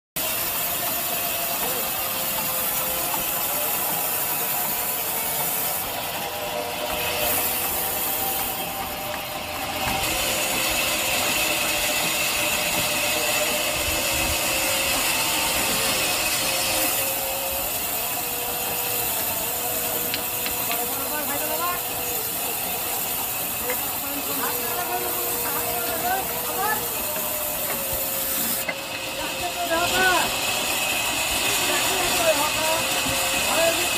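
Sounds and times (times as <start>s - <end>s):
band saw cutting timber: 0.2s - 33.9s.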